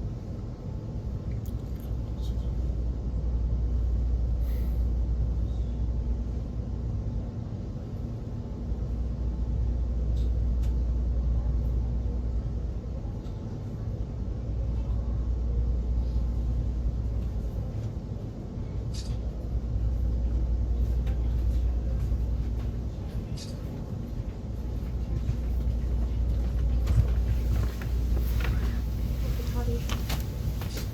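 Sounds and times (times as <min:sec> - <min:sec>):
moving train rumble: 0:00.0 - 0:30.9.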